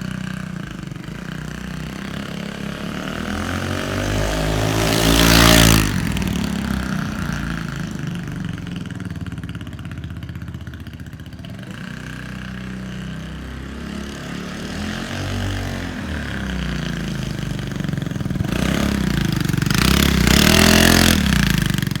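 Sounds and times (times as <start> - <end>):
scooter engine revving and idling: 0.0 - 22.0.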